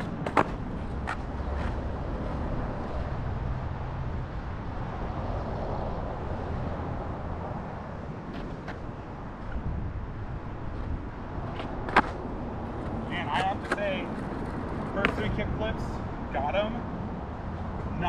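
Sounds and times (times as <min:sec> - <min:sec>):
road traffic: 0:00.0 - 0:18.0
skateboard wheels rolling on asphalt: 0:00.0 - 0:18.0.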